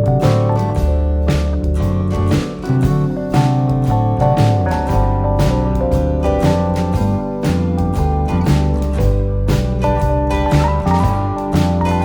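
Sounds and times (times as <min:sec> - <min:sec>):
background music with guitar and keyboard: 0:00.0 - 0:12.0.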